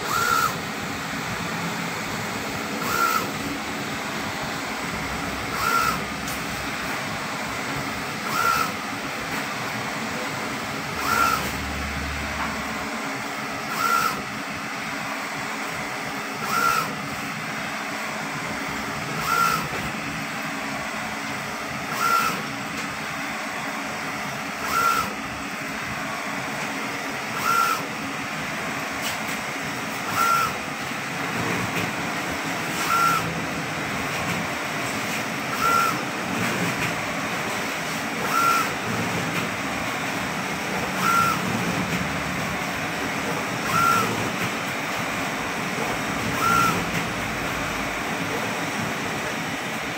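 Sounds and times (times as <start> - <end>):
print head carriage whirring: 0.0 - 49.9
printer running hum: 0.0 - 49.9.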